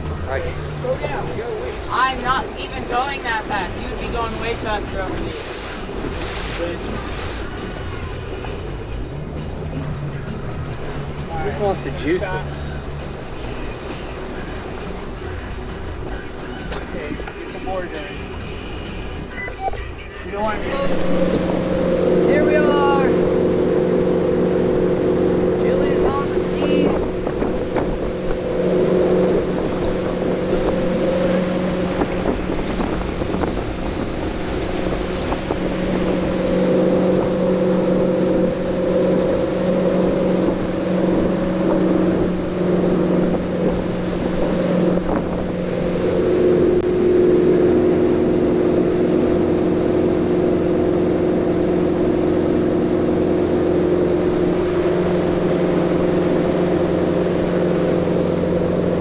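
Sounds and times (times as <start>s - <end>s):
boat engine droning: 0.0s - 59.0s
rush of wake: 0.0s - 59.0s
wind: 0.0s - 59.0s.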